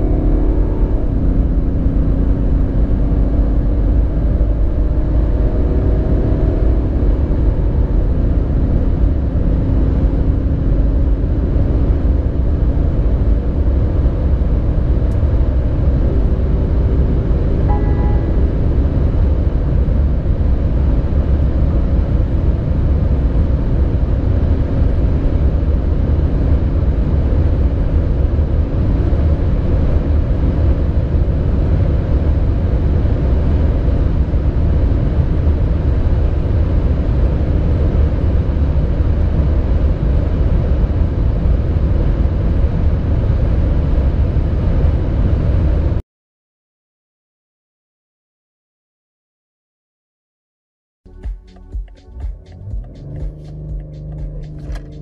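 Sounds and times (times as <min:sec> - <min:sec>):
car engine drone: 0:00.0 - 0:46.0, 0:51.1 - 0:55.0
wind and road noise: 0:00.0 - 0:46.0, 0:51.1 - 0:55.0.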